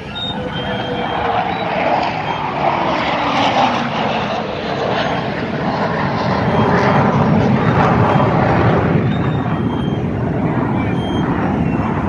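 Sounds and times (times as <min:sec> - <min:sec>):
jet fighters flying past: 0:00.0 - 0:12.0.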